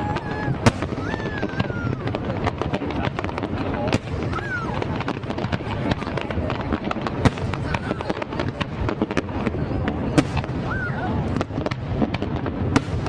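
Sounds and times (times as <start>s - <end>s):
crowd voices and shouts: 0.0s - 13.0s
fireworks bangs and crackles: 0.0s - 13.0s.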